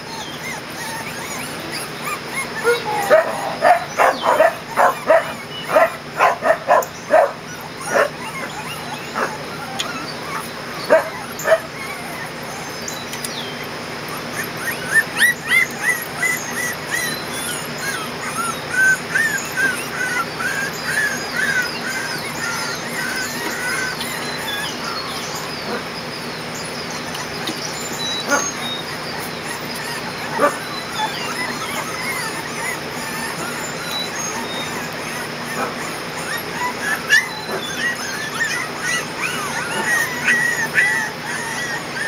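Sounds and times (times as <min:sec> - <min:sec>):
puppies whining and yelping: 0:00.0 - 0:42.0.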